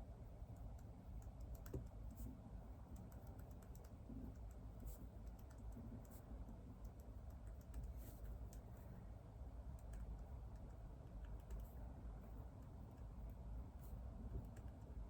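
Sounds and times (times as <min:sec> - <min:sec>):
faint keyboard typing: 0:00.4 - 0:15.0.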